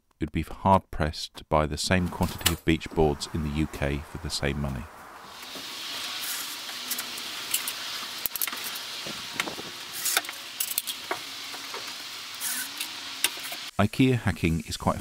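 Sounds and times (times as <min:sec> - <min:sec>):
steady hiss: 0:01.9 - 0:15.0.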